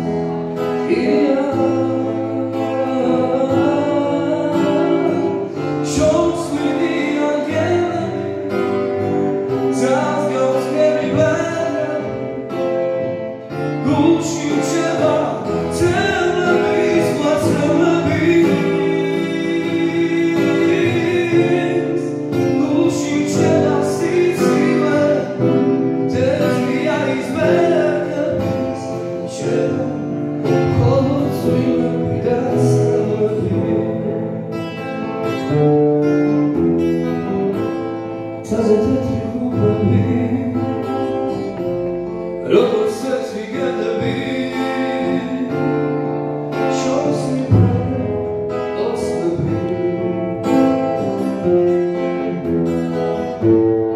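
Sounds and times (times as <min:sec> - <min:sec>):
man singing through speakers: 0:00.6 - 0:08.8, 0:09.4 - 0:13.0, 0:13.7 - 0:34.6, 0:38.3 - 0:41.7, 0:42.4 - 0:51.4.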